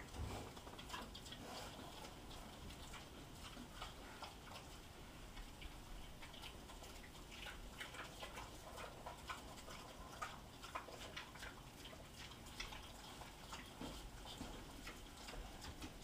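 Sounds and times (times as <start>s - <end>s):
pigs chewing: 0.0s - 16.0s.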